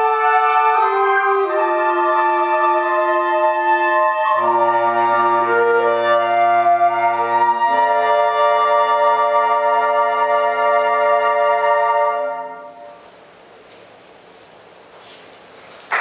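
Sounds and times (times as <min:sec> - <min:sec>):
woodwind ensemble playing chords: 0:00.0 - 0:13.2.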